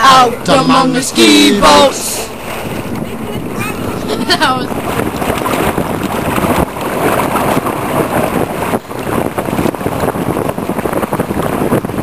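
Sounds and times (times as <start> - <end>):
water splashing against boat: 0.0 - 12.0
wind buffeting microphone: 0.0 - 12.0.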